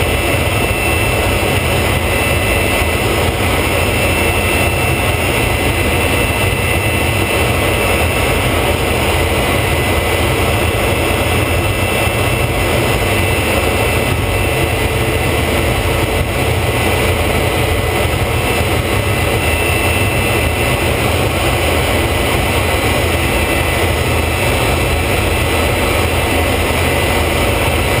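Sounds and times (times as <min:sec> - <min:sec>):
faint high whine: 0:00.0 - 0:28.0
jet engine rushing noise: 0:00.0 - 0:28.0.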